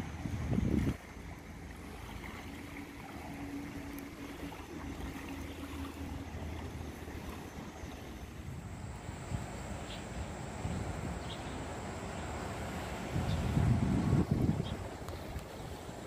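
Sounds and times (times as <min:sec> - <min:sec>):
faint engine hum: 0:00.0 - 0:16.0
low outdoor rumble: 0:00.0 - 0:16.0.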